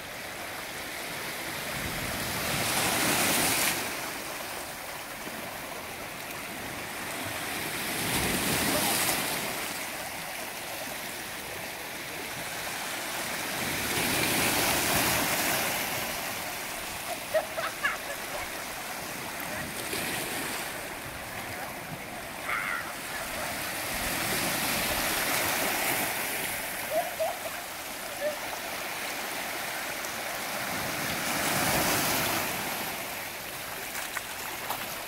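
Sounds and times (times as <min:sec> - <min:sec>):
waves washing over pebbles: 0:00.0 - 0:35.0.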